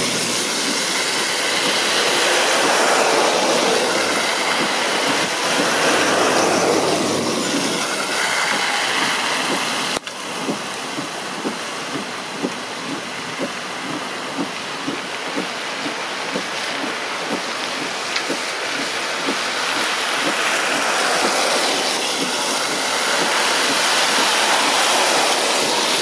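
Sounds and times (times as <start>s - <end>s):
tyres spraying through floodwater: 0.0s - 26.0s.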